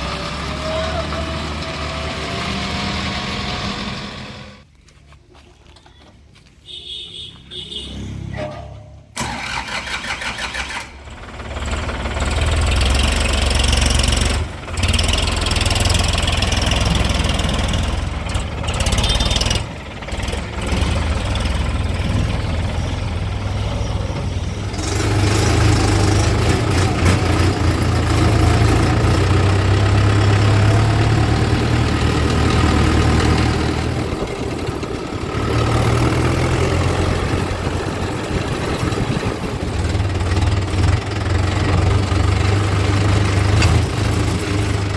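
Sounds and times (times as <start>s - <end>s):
diesel engine running: 0.0s - 4.6s, 9.2s - 44.9s.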